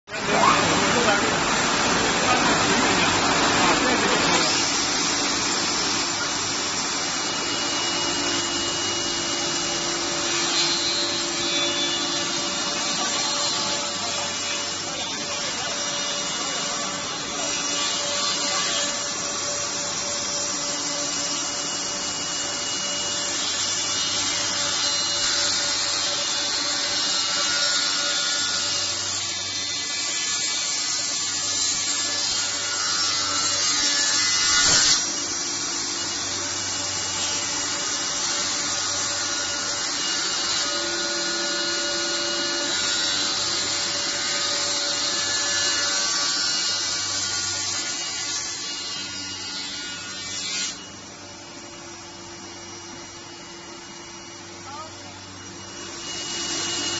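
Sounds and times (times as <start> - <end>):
cutter heads planing wood: 0.1 - 50.9, 55.5 - 56.9.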